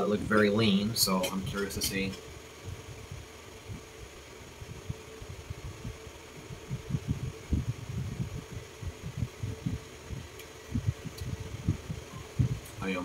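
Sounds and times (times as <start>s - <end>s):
electric fan humming: 0.0s - 13.0s
soft low thumps: 1.4s - 13.0s.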